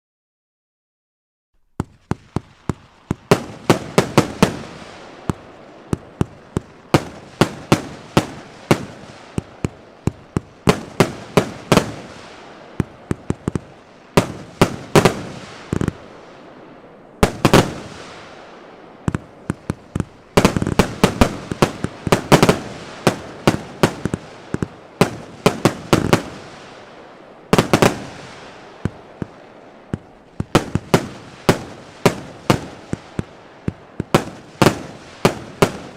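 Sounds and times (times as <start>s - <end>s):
firework bangs with hiss: 1.8s - 35.9s.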